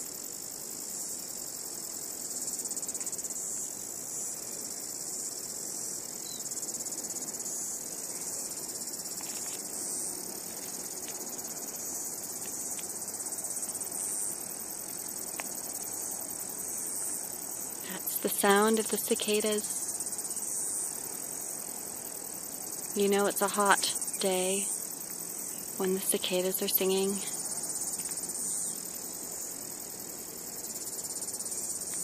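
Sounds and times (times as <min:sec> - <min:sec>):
cicadas singing: 0:00.0 - 0:32.0.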